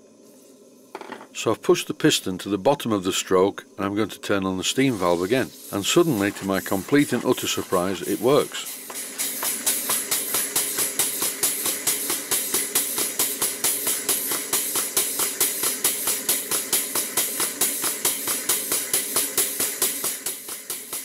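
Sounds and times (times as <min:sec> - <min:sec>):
steam hissing: 0:00.0 - 0:21.0
steam pump exhaust chuffs: 0:01.4 - 0:21.0.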